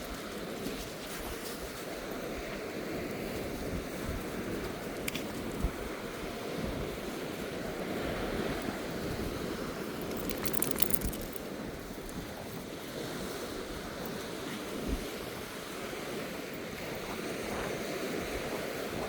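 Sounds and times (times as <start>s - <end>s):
surf washing on beach: 0.0s - 19.0s.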